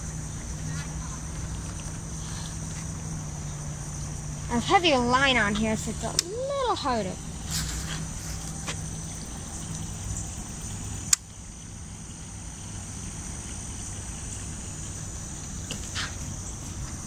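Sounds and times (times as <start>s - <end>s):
insects singing: 0.0s - 17.0s.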